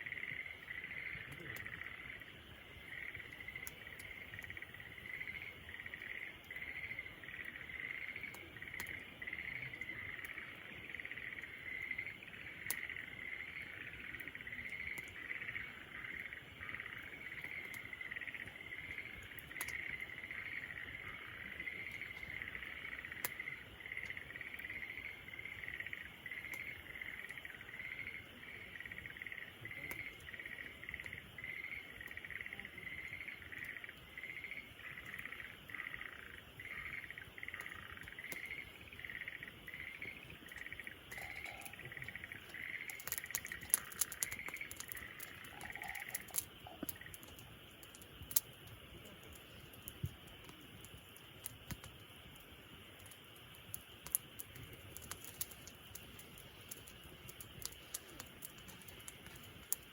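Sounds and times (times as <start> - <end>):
campfire crackling: 0.0 - 59.9
insects chirping: 0.0 - 59.9.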